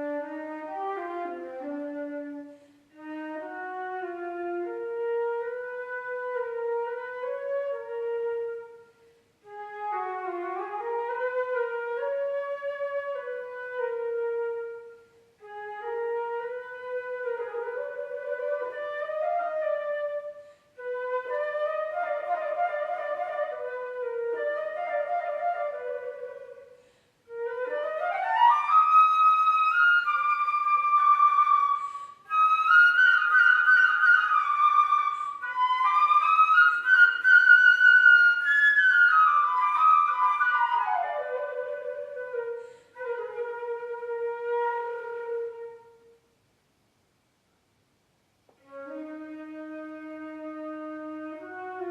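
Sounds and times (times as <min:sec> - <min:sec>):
flute playing: 0:00.0 - 0:46.3, 0:48.6 - 0:51.9.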